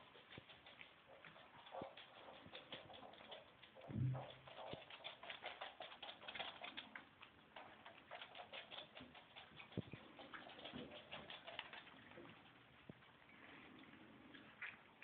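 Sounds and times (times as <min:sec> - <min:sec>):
animal claws tapping and scratching: 0:00.0 - 0:13.1.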